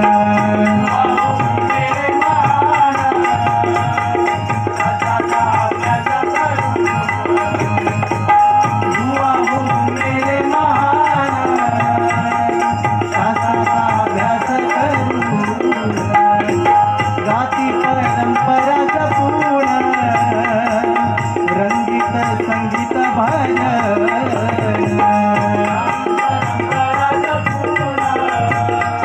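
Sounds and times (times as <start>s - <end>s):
hand drum rhythm: 0.0s - 29.0s.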